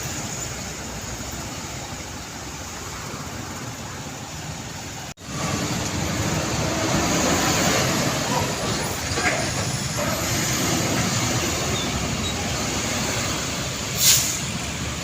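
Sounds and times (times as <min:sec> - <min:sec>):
heavy trucks driving past: 0:00.0 - 0:15.0.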